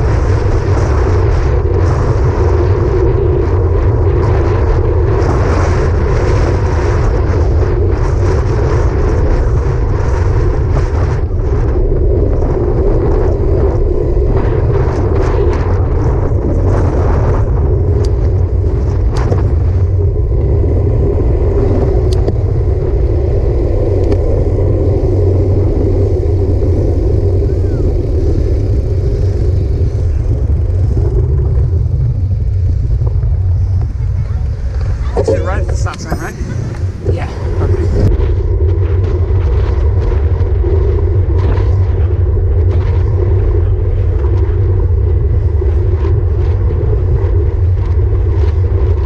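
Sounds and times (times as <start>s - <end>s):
road rumble: 0.0s - 49.0s
wind noise: 0.0s - 49.0s.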